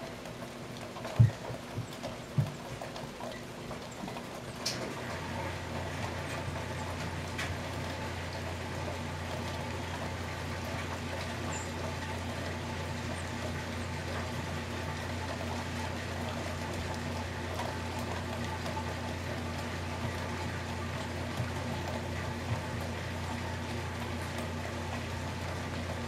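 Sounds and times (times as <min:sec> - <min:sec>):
rain falling in woodland: 0:00.0 - 0:26.0.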